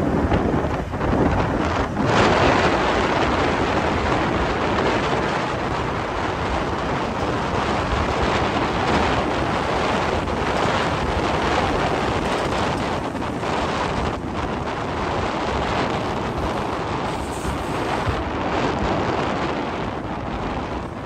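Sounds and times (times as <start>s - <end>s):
road and traffic noise: 0.0s - 21.0s
wind buffeting microphone: 0.0s - 21.0s.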